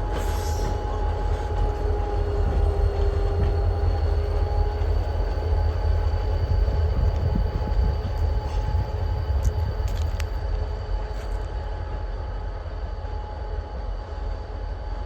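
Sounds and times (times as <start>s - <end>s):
deep locomotive engine rumble: 0.0s - 15.0s.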